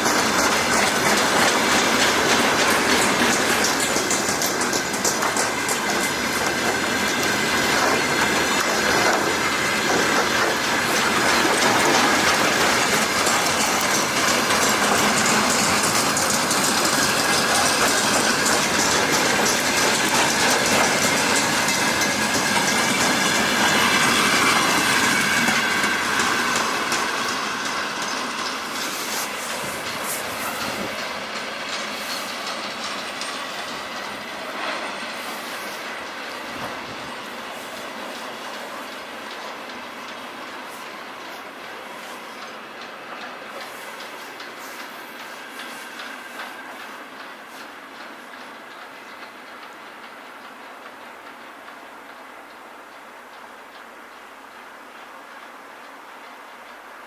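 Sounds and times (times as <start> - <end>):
train wheels clacking over rails: 0.0 - 57.0.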